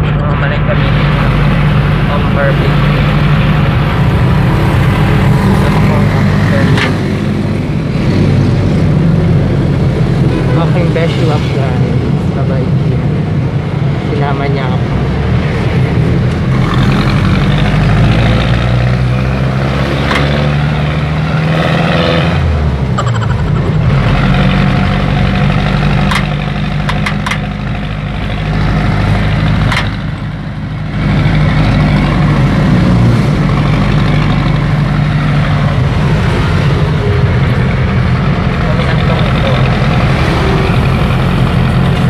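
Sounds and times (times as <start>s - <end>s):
car engine running: 0.0s - 21.5s, 22.4s - 42.0s.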